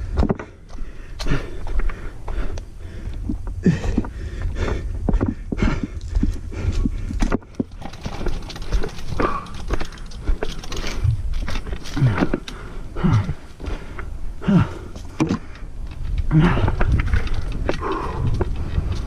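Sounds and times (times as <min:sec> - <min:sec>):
wind rumble on camera: 0:00.0 - 0:19.0
bike rattling knocks and clacks: 0:03.3 - 0:19.0.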